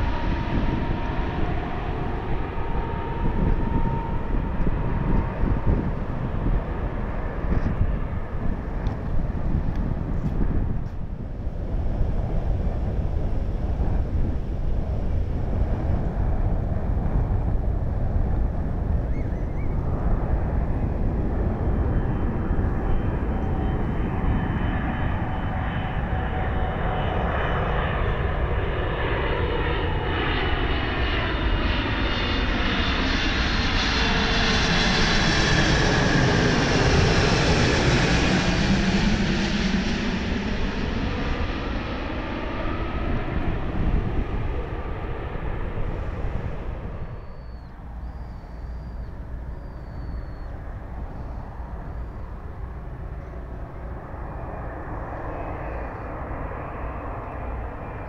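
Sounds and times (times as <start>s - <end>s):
jet airliner passing overhead: 0.0s - 58.0s.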